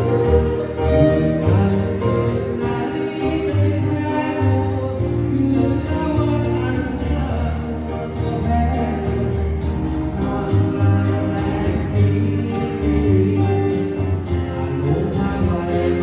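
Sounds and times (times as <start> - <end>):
song with bass and singing: 0.0 - 16.0.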